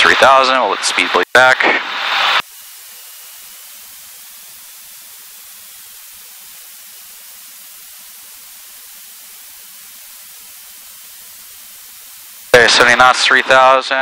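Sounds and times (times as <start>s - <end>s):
steady electronic hiss: 0.0s - 14.0s.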